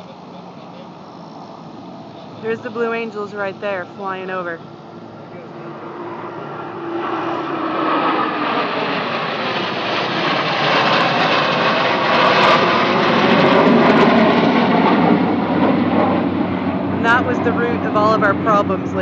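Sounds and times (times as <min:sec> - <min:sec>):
fighter jets flying over: 0:00.0 - 0:19.0.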